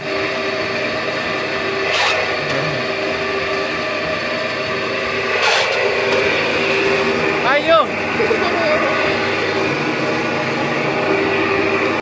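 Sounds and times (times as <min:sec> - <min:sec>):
mechanical drone with hiss: 0:00.0 - 0:12.0.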